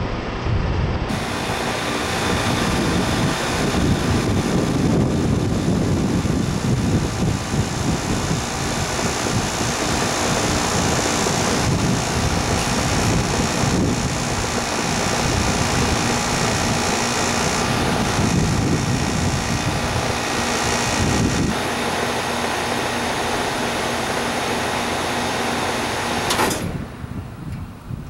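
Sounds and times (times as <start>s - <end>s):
air conditioner fan whooshing: 0.0s - 28.0s.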